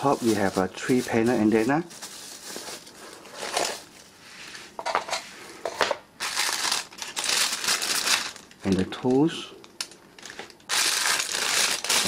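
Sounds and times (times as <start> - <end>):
plastic bags crinkling: 0.0 - 4.1, 6.2 - 12.0.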